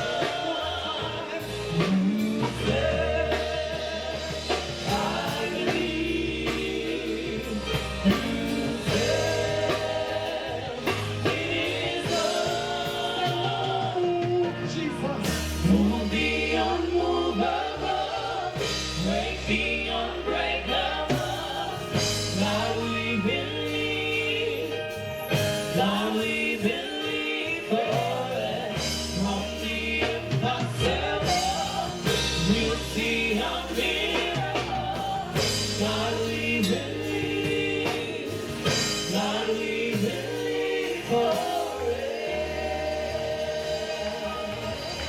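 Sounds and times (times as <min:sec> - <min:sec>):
bass line: 0:00.0 - 0:45.0
choir singing worship song: 0:00.0 - 0:45.0
drums: 0:00.0 - 0:45.0
keyboard: 0:00.0 - 0:45.0.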